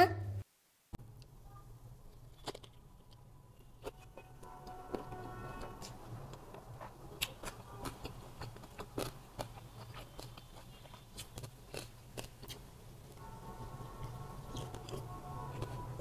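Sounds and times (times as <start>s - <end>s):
chewing and crunching: 2.1s - 12.8s, 13.9s - 16.0s.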